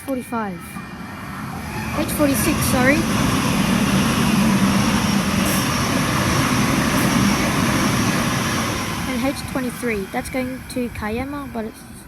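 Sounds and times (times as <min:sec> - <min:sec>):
train motors humming: 0:00.0 - 0:12.0
train wheels rumbling: 0:00.0 - 0:12.0.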